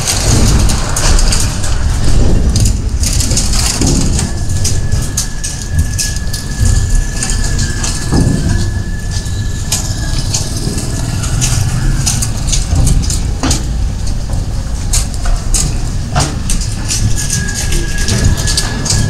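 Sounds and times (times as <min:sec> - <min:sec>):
sharp clicks and knocks: 0:00.0 - 0:19.0
vehicle engine rumbling: 0:00.0 - 0:19.0.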